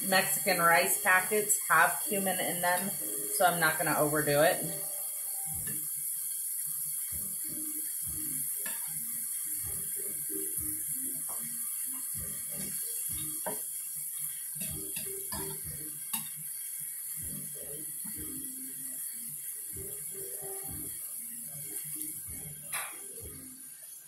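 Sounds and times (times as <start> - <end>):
ground beef sizzling in skillet: 0.0 - 24.0.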